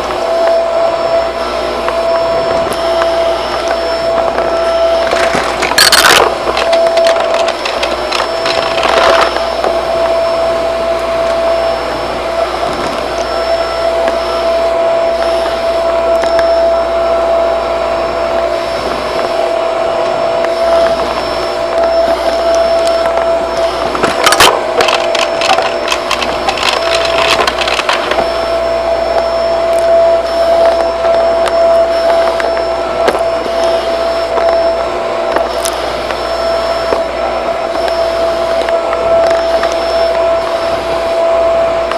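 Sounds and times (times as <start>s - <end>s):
debris rattling in vacuum: 0.0s - 41.9s
vacuum cleaner motor whine: 0.0s - 41.9s.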